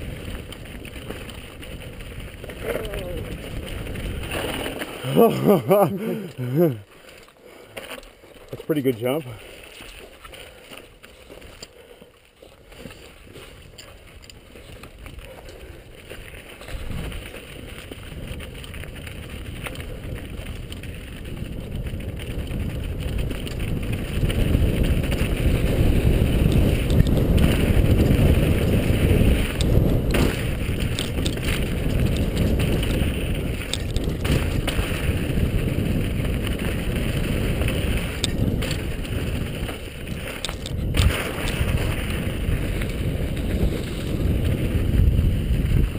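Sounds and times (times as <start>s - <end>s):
wind rushing over camera: 0.0s - 6.9s, 12.9s - 45.9s
bike tyre and frame rattle: 0.0s - 45.9s.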